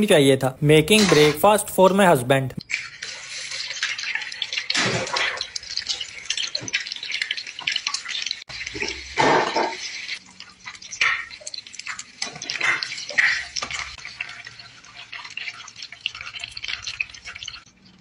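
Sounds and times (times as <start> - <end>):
liquid pouring and dripping: 2.6 - 18.0.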